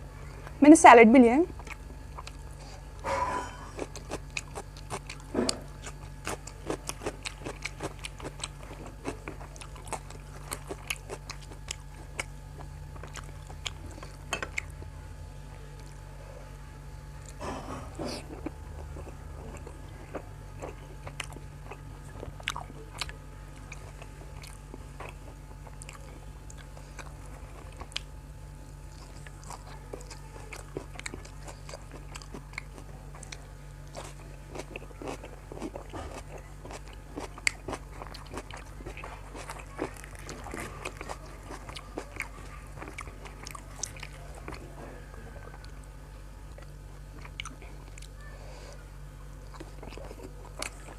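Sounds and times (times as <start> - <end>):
steady low hum: 0.0 - 50.9
crunchy chewing: 1.5 - 50.9.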